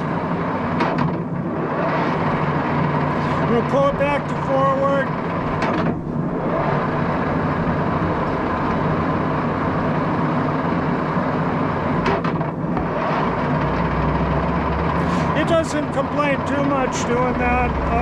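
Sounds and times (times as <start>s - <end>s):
lathe gear whir: 0.0s - 18.0s.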